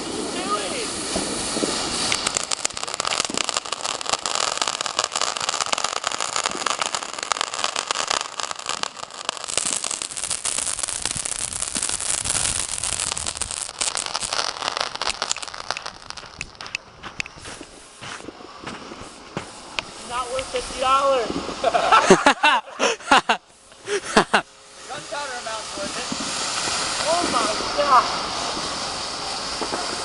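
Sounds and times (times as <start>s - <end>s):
firework crackling: 0.0s - 30.0s
hiss of sparks: 0.0s - 30.0s.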